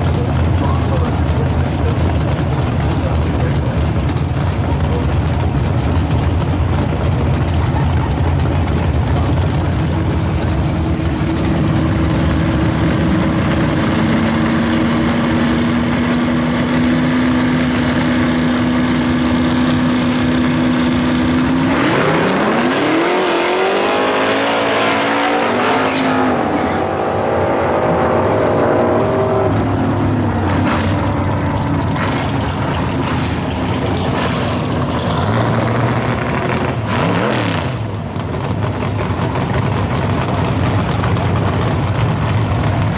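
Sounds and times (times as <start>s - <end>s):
drag car engines idling: 0.0s - 25.6s, 26.2s - 42.9s
drag car accelerating: 0.0s - 42.9s.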